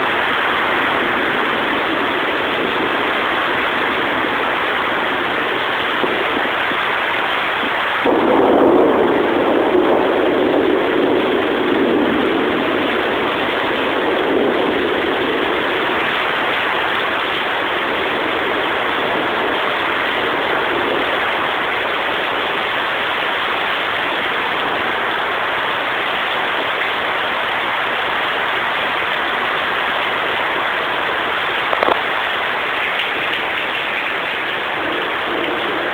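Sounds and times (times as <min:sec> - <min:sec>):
heavy rain pouring: 0:00.0 - 0:35.9
thunder rumble: 0:00.0 - 0:35.9.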